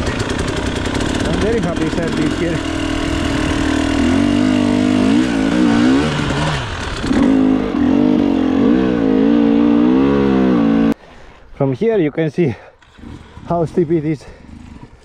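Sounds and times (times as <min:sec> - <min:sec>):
motorcycle engine revving: 0:00.0 - 0:11.0, 0:12.8 - 0:15.0.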